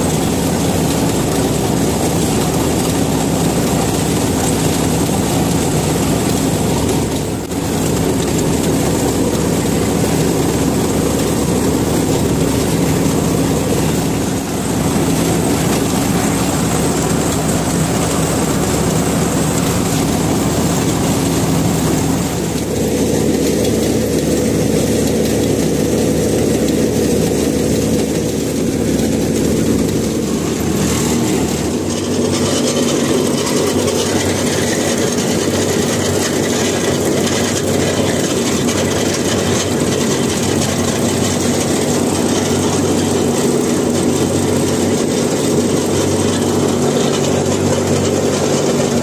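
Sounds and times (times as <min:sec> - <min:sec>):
combine harvester engine drone: 0:00.0 - 0:49.0.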